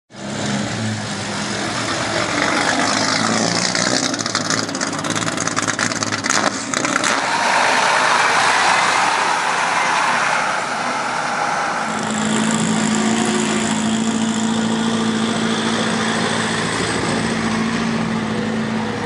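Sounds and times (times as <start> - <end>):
car engine pulling away: 0.1 - 19.0.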